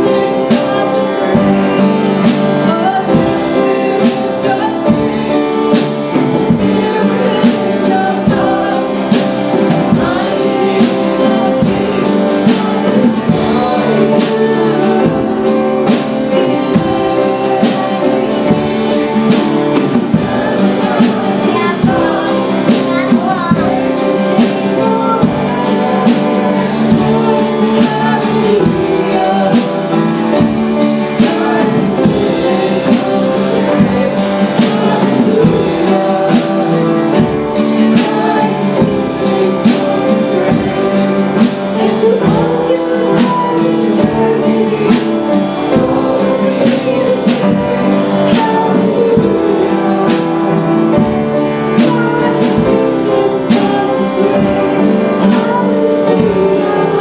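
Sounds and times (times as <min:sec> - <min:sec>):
person singing: 0:00.0 - 0:57.0
worship band playing: 0:00.0 - 0:57.0.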